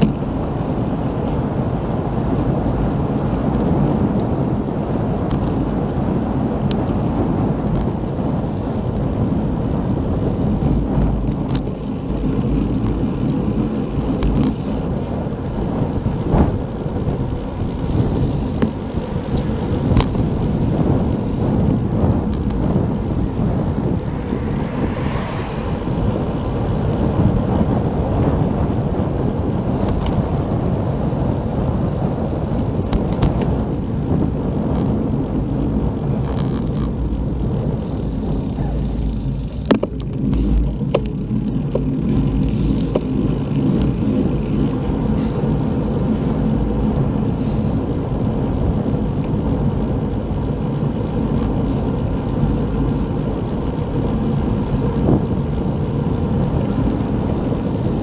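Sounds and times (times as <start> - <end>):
bicycle tyres rolling on tarmac: 0.0 - 58.0
wind rumble on microphone: 0.0 - 58.0.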